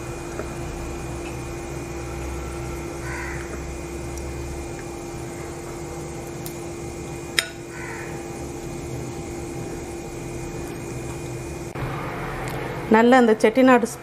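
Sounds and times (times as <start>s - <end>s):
mechanical room hum: 0.0s - 14.0s.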